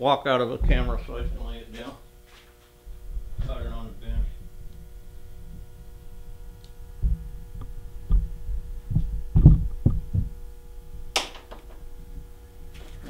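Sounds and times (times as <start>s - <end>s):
electrical hum: 0.0s - 13.0s
dull low thumps of footsteps: 0.6s - 13.0s.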